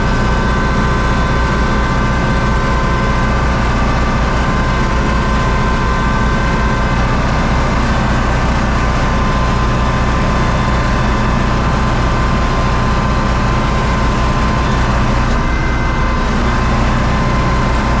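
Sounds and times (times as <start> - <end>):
thin steady whine: 0.0 - 18.0
tractor diesel engine running: 0.0 - 18.0.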